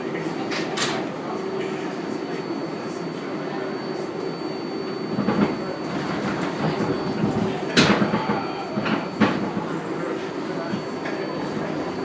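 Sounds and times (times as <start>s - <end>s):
subway car running on track: 0.0s - 12.0s.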